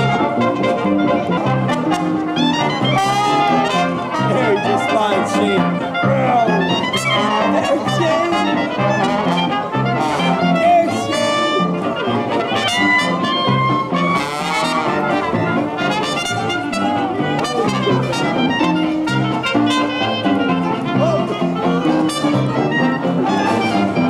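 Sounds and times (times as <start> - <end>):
trombone: 0.0 - 24.0
trumpet: 0.0 - 24.0
upright bass: 0.0 - 24.0.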